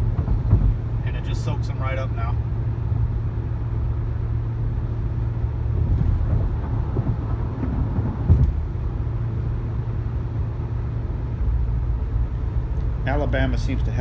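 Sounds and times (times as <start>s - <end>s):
low road rumble in car: 0.0s - 14.0s.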